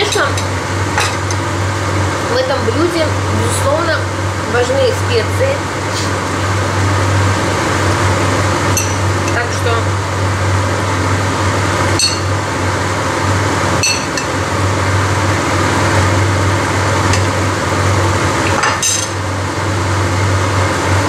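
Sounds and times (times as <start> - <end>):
broth boiling in a wok: 0.0 - 21.0
steady low hum: 0.0 - 21.0.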